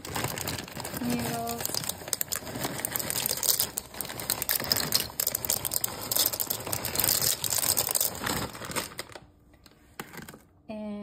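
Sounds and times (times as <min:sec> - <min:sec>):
dry pasta rattling: 0:00.0 - 0:09.3
plastic bag shaking: 0:00.0 - 0:09.3.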